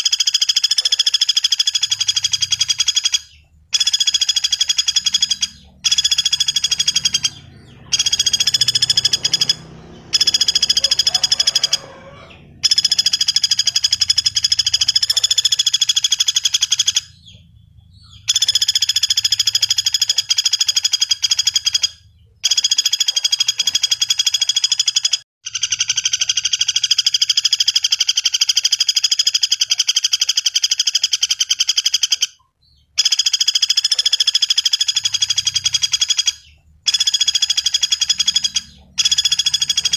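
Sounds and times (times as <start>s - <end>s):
woodpecker rattling trills: 0.0s - 39.9s.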